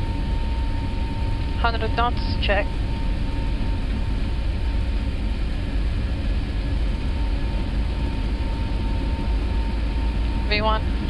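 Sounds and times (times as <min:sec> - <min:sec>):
jet engines and wheels rumbling: 0:00.0 - 0:11.0.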